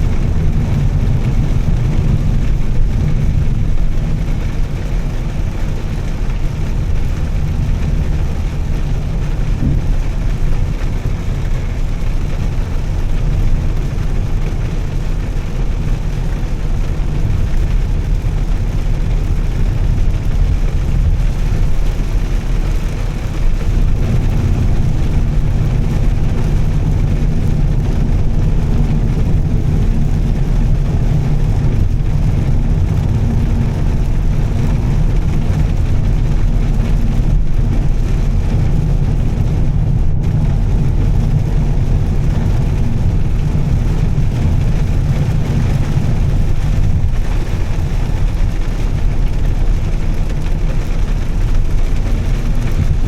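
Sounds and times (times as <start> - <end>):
car engine and tyres droning: 0.0 - 53.0.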